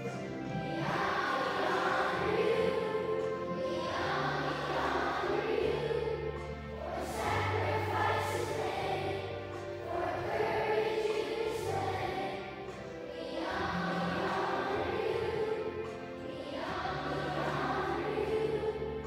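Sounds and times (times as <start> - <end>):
children singing together: 0.0 - 19.0.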